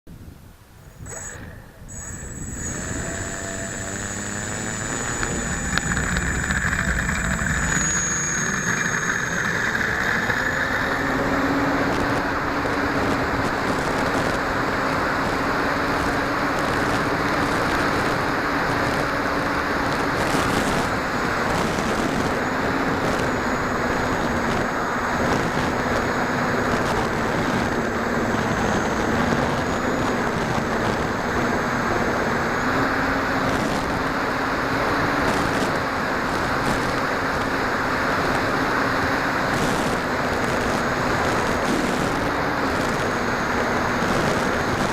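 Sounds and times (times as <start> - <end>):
wind noise: 0.1 - 44.9
model aircraft motor droning: 0.8 - 44.9.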